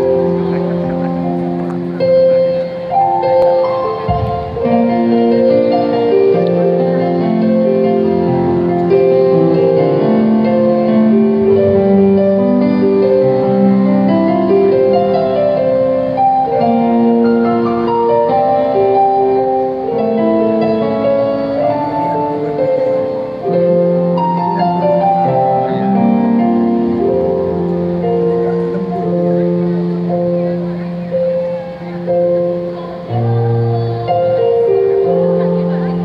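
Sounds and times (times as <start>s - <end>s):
electronic keyboard playing hymn: 0.0s - 36.0s.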